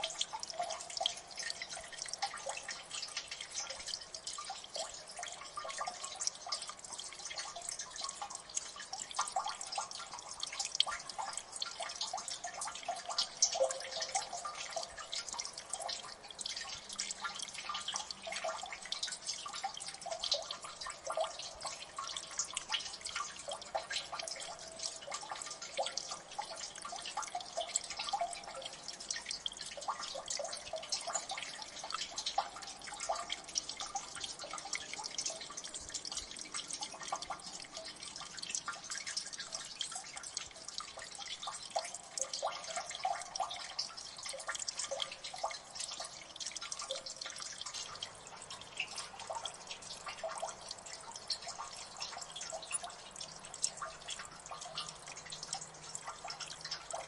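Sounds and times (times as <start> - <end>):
water dripping into water: 0.0 - 57.0.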